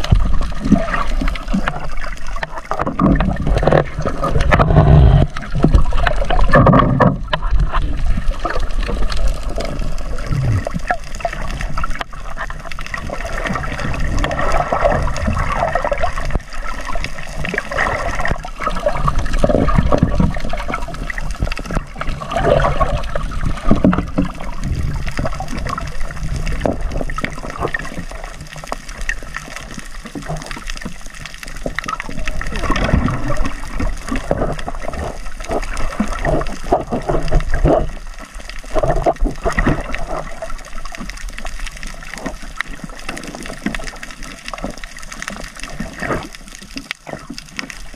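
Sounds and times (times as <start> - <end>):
muffled underwater rushing: 0.0 - 47.9
water sloshing and gurgling: 0.0 - 47.9.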